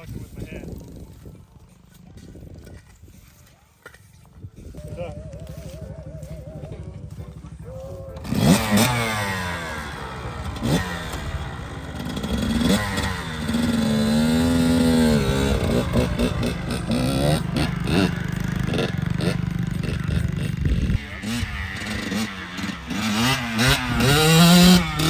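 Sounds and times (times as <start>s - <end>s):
dirt bike engine revving: 4.7s - 25.0s.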